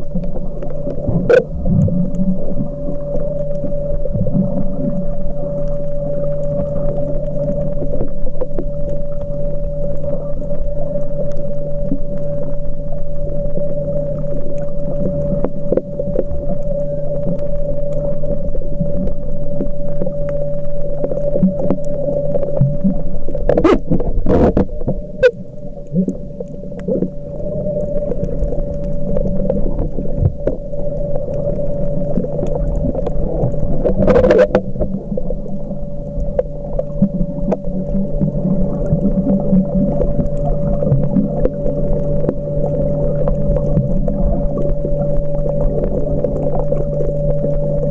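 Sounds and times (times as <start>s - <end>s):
two-note underwater hum: 0.0s - 47.9s.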